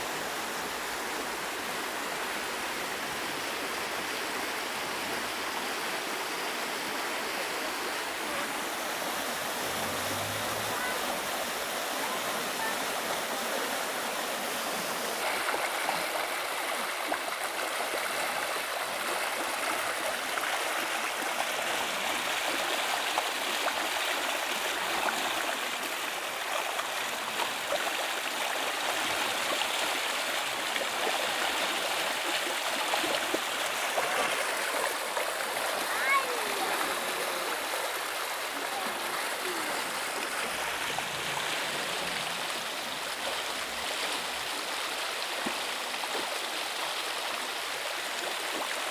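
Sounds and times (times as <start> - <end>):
floodwater rushing down a channel: 0.0 - 48.9.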